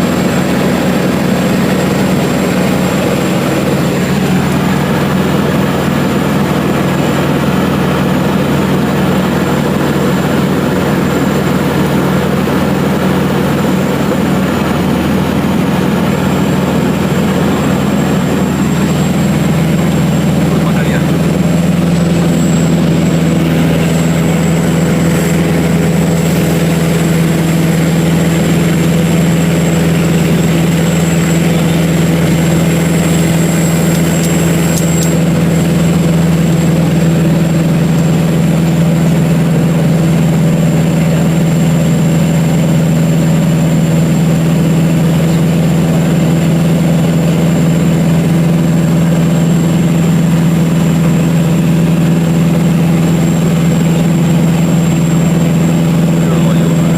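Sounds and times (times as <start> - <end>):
propeller plane engine drone: 0.0 - 56.9.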